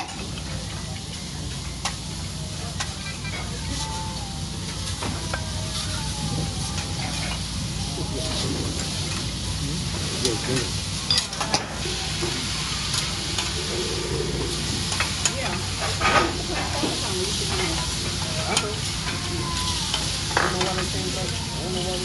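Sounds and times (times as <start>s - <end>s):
meat sizzling on a griddle: 0.0s - 22.0s.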